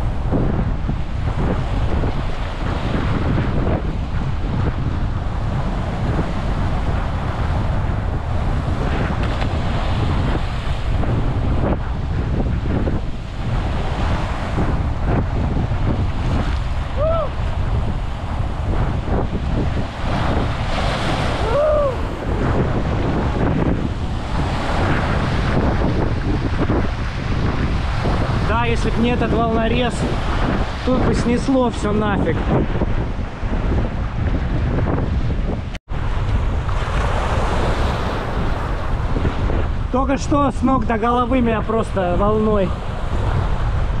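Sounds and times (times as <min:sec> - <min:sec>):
waves breaking against breakwater: 0:00.0 - 0:44.0
wind buffeting microphone: 0:00.0 - 0:44.0.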